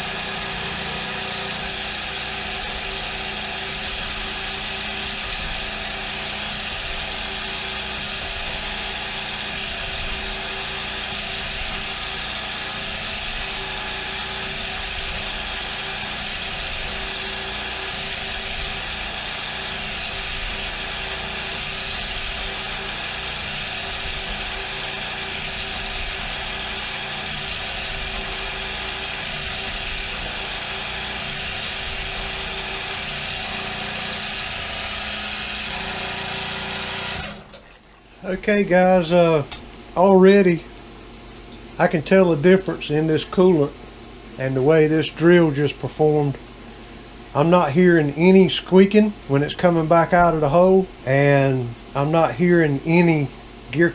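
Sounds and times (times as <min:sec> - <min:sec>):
mill spindle whirring: 0:00.0 - 0:53.9.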